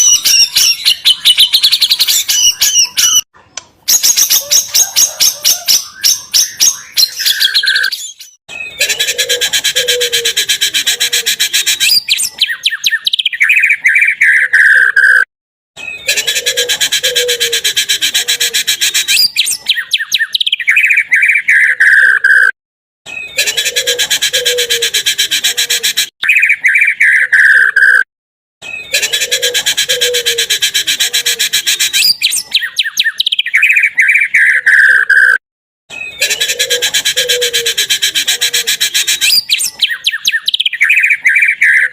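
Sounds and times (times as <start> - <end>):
songbird singing: 0.0 - 3.3, 3.9 - 22.5, 23.1 - 28.0, 28.6 - 41.9
recorded birdsong: 0.0 - 41.9.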